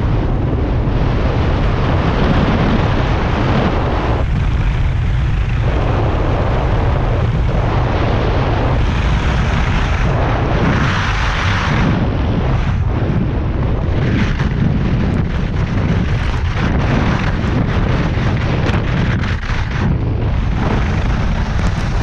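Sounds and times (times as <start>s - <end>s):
wind buffeting microphone: 0.0s - 22.0s
skis carving on snow: 1.4s - 12.9s, 13.8s - 22.0s.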